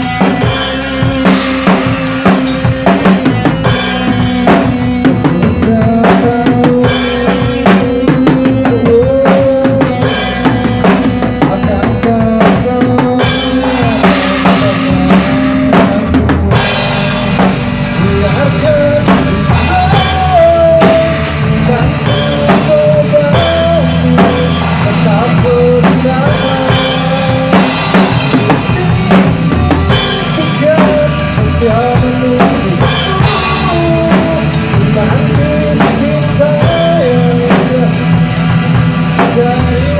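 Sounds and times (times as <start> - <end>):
drum kit played hard: 0.0 - 39.9
recorded song with melody: 0.0 - 39.9.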